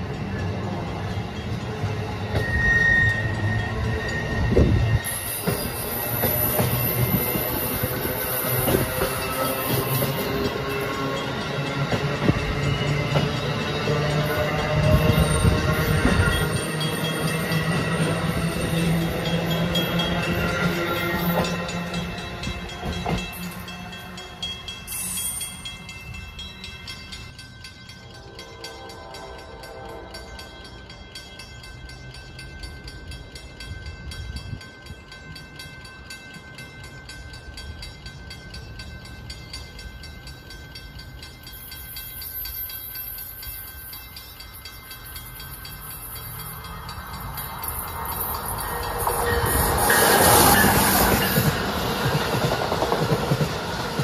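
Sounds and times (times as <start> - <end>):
passenger train passing: 0.0 - 54.0
train approaching: 0.0 - 54.0.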